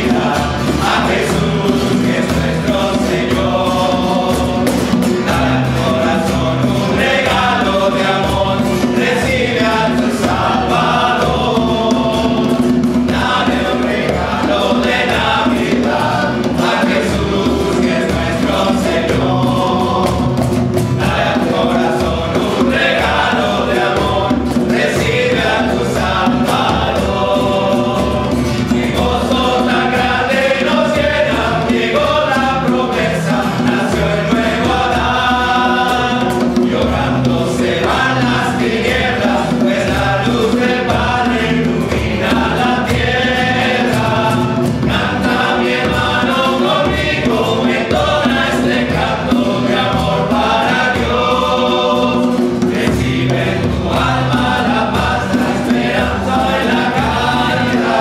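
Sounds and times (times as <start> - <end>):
hand drums: 0.0 - 58.0
men singing a carol: 0.0 - 58.0.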